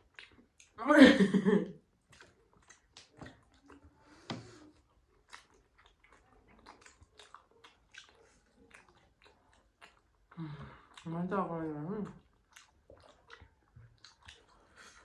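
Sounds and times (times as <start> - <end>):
faint wet chewing: 0.0 - 0.8, 1.7 - 15.0.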